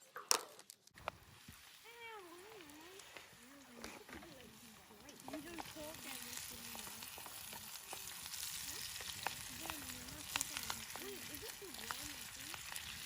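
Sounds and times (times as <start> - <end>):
food sizzling in a pan: 0.0 - 13.0
utensil clicking and scraping: 0.0 - 13.0.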